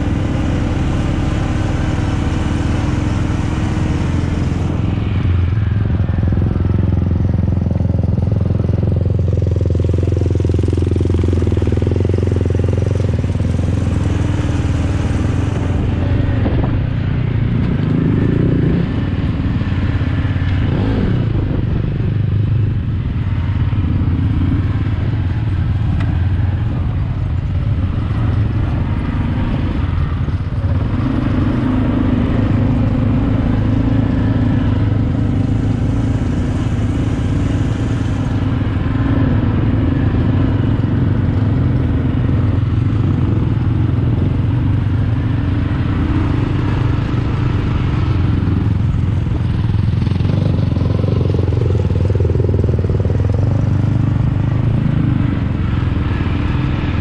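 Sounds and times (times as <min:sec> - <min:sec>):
atv engine running: 0:00.0 - 0:57.0
other quad engines: 0:00.0 - 0:57.0.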